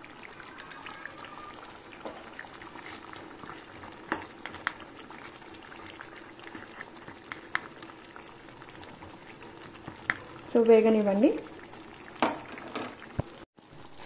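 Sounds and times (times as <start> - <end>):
chicken frying in hot oil: 0.0 - 14.0.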